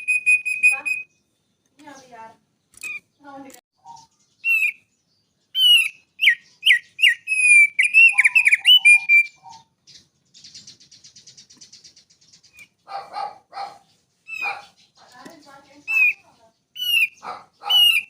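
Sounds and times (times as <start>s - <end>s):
songbird whistling and trilling: 0.0s - 2.1s, 2.7s - 18.0s.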